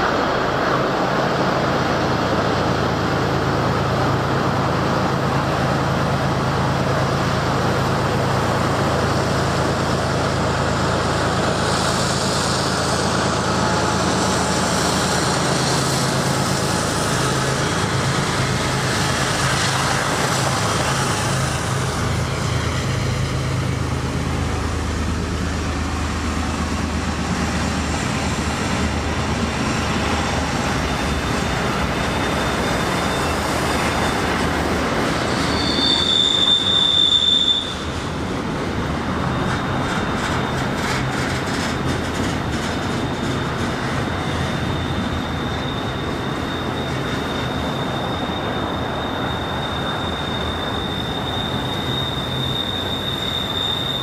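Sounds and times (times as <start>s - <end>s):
rumble of train cars on rail: 0.0s - 54.0s
freight train wheels squealing: 0.2s - 54.0s.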